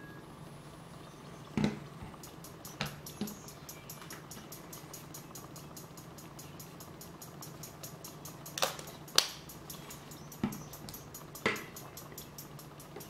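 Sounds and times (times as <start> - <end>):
low hum: 0.0 - 13.0
tinny music from earbuds: 0.8 - 13.0
plastic earbuds clicking: 2.2 - 13.0.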